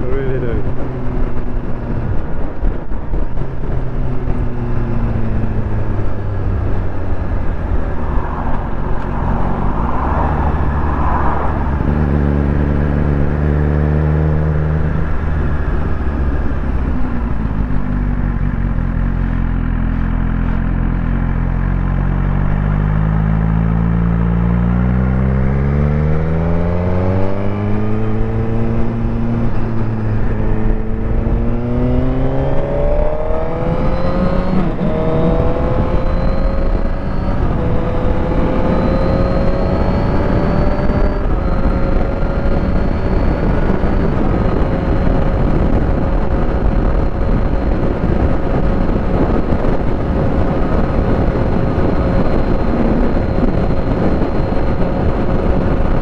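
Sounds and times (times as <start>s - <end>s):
motorcycle engine accelerating: 0.0s - 56.0s
wind and road rush: 0.0s - 56.0s.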